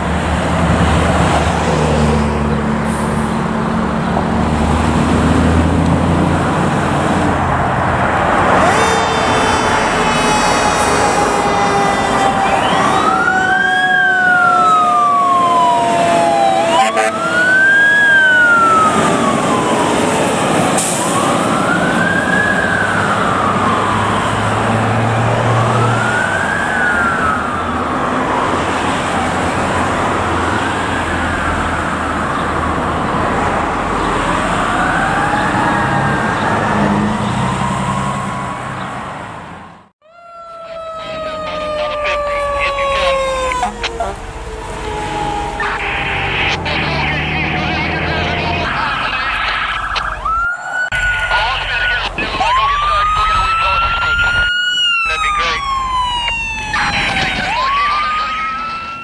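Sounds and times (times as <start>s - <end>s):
fire engine siren wailing: 0.0s - 59.0s
lower siren tone: 8.3s - 59.0s.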